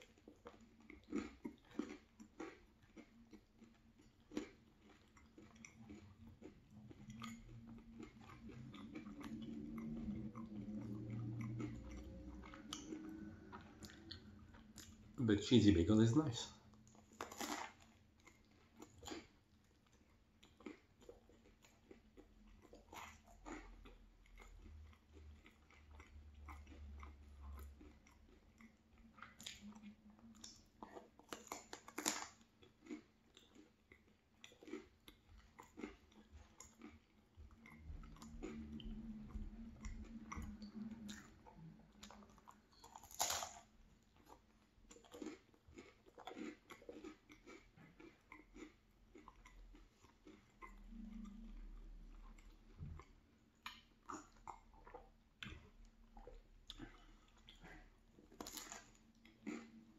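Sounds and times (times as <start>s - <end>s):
biting into bread: 0.0s - 15.0s, 16.8s - 52.8s, 53.7s - 59.9s
close chewing mouth clicks: 0.0s - 15.2s, 16.6s - 59.9s.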